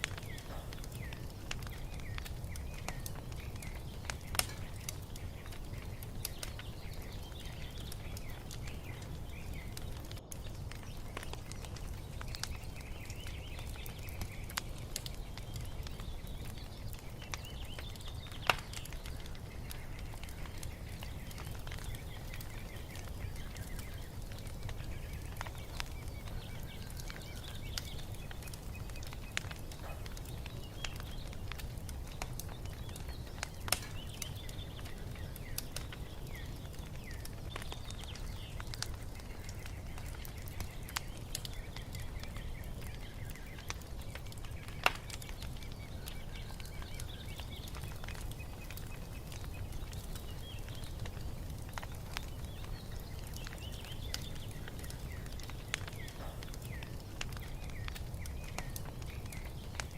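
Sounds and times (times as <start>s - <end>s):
birds chirping faintly: 0.0s - 59.9s
wood fire crackling and popping: 0.0s - 59.9s.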